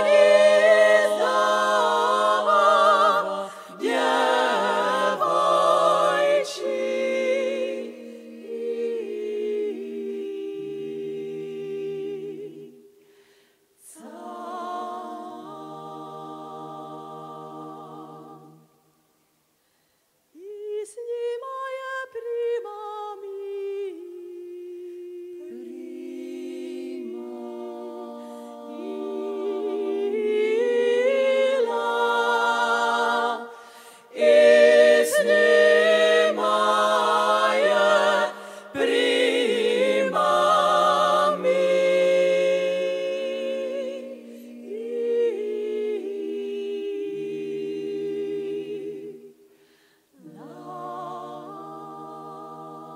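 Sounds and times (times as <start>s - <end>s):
women singing a cappella harmony: 0.0s - 13.0s, 13.8s - 18.8s, 20.3s - 52.9s.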